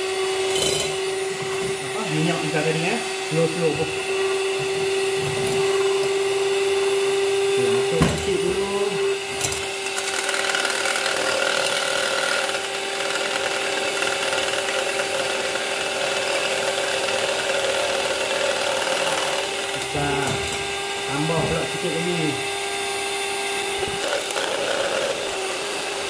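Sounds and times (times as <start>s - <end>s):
electric mixer whirring: 0.0s - 26.0s.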